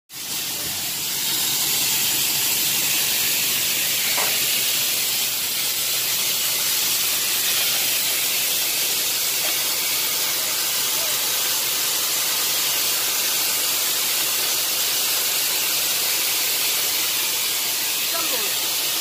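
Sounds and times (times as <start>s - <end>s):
high-pitched steady hiss: 0.2s - 19.0s.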